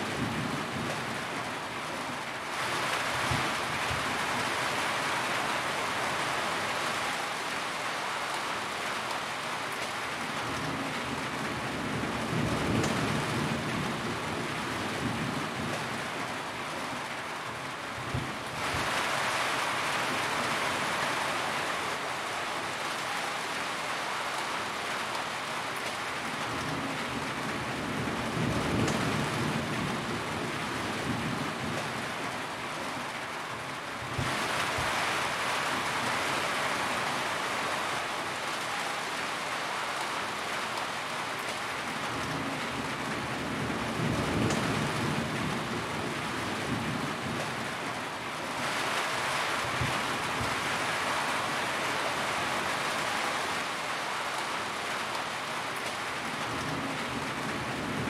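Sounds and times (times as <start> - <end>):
rain on a metal roof: 0.0 - 58.0.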